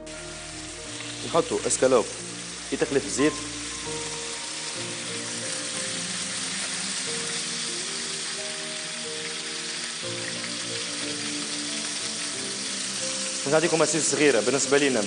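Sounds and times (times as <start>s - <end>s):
background music of held notes: 0.0s - 15.0s
meat sizzling in oil: 0.0s - 15.0s.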